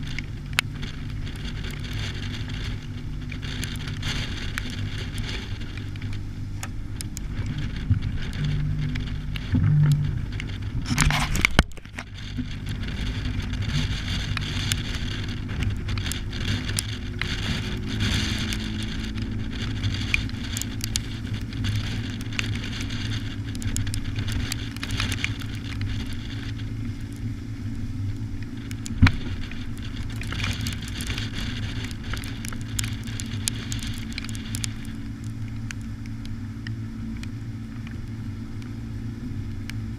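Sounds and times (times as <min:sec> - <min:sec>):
motor running steadily: 0:00.0 - 0:39.9
rain patter: 0:00.0 - 0:39.9.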